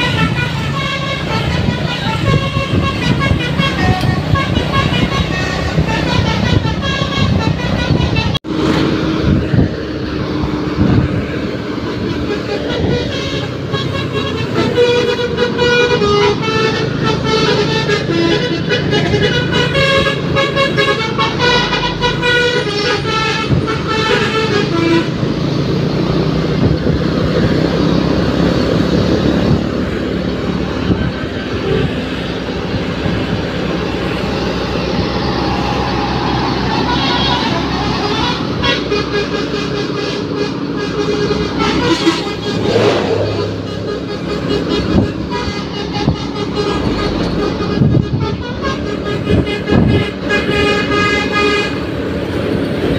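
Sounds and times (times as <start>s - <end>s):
musical bus horn playing a tune: 0.0s - 8.6s, 11.7s - 25.6s, 31.0s - 32.4s, 33.0s - 52.9s.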